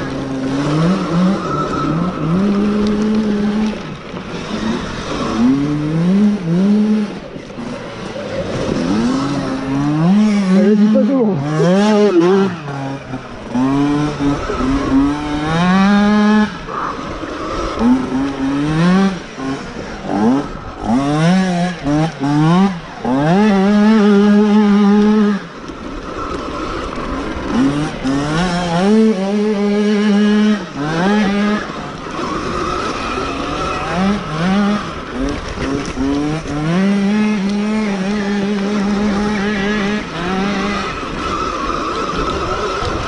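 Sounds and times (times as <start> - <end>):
electric motorbike motor whining: 0.0 - 43.0.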